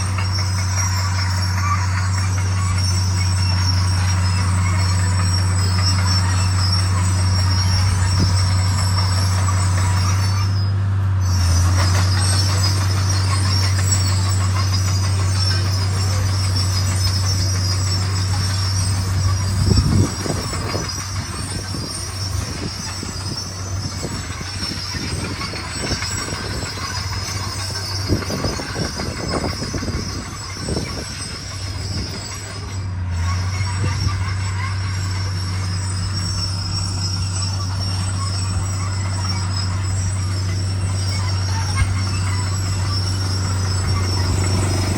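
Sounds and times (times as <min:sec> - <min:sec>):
diesel engine droning: 0:00.0 - 0:44.9
steel tracks squealing and clanking: 0:00.0 - 0:44.9.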